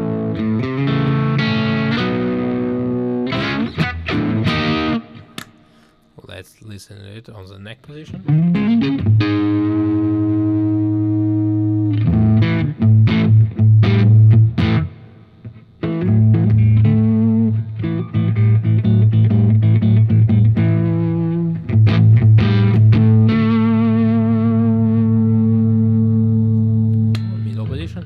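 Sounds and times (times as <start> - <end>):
overdriven electric guitar: 0.0 - 5.9, 8.1 - 28.0.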